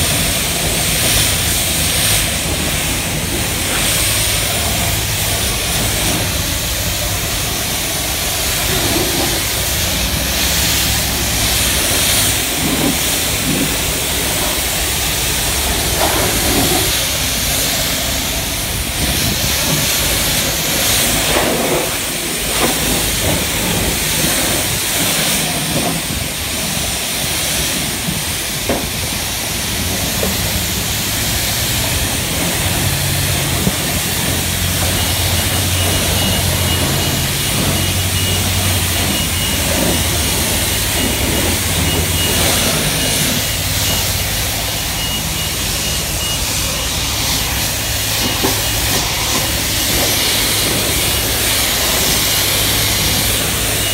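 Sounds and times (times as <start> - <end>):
pressure washer spraying water: 0.0 - 53.9.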